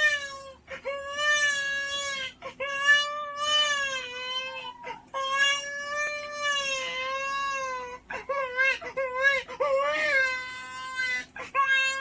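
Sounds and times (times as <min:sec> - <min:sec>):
man imitating baby crying: 0:00.0 - 0:12.0.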